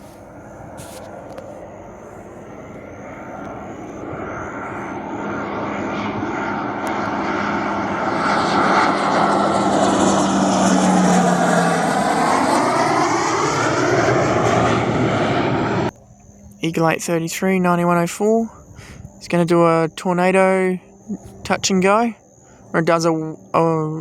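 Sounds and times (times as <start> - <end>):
aircraft engine passing: 0.0 - 24.0
steady hum: 0.0 - 24.0.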